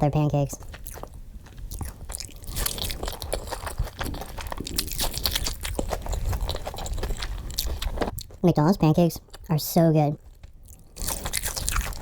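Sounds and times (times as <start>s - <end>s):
person chewing crunchy food: 0.1s - 12.0s.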